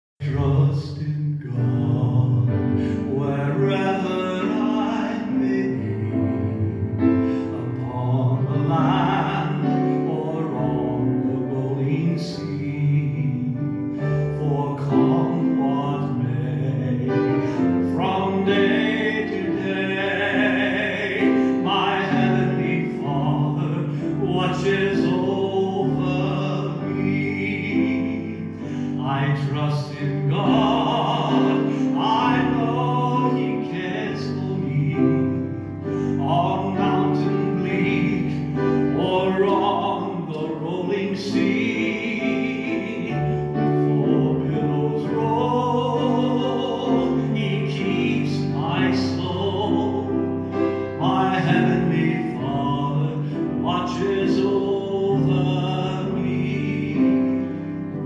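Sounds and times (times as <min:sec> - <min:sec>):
man singing a hymn: 0:00.2 - 0:58.0
sustained musical accompaniment: 0:00.6 - 0:58.0.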